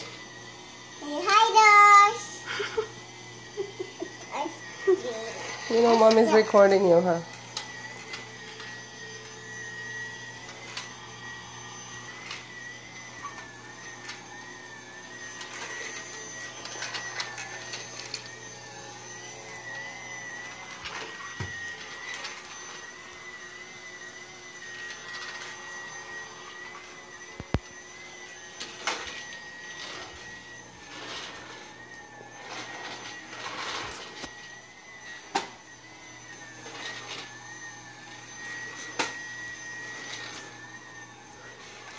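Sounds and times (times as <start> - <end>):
toy vacuum cleaner whirring: 0.0 - 41.9.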